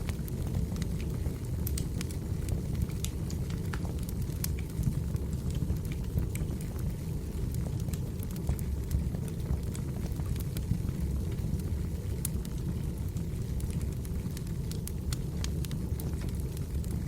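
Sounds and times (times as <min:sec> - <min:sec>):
fire rumbling: 0:00.0 - 0:17.0
logs popping and crackling: 0:00.0 - 0:17.0.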